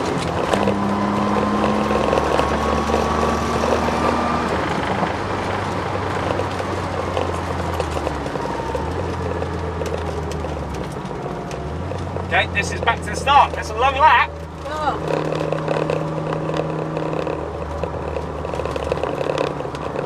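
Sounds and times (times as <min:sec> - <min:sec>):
car engine drone from inside: 0:00.0 - 0:20.0
thin drivetrain whine: 0:00.0 - 0:20.0.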